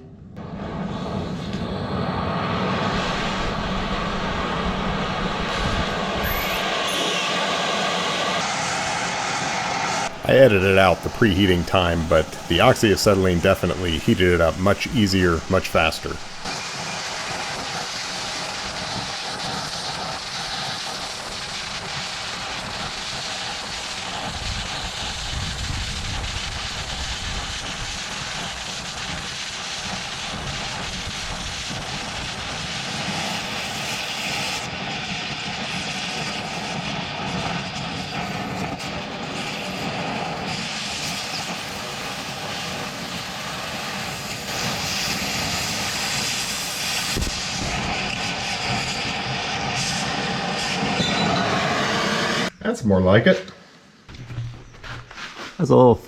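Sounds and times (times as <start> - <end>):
cutting torch hissing: 0.6 - 52.5.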